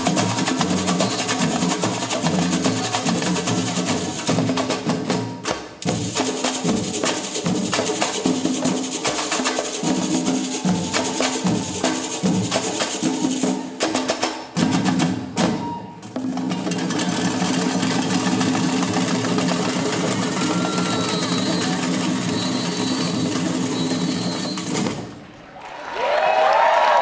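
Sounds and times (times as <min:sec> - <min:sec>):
hand drums playing fast rhythm: 0:00.0 - 0:25.1.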